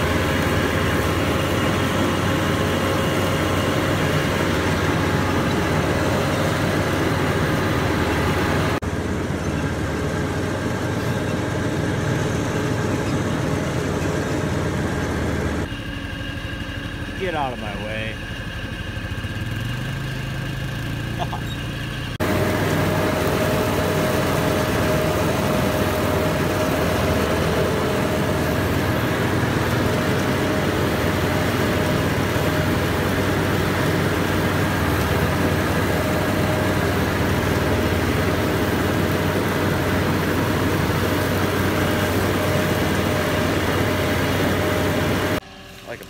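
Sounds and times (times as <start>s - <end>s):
atv engine running at low speed: 0.0s - 46.0s
riding mower mowing grass: 0.0s - 46.0s.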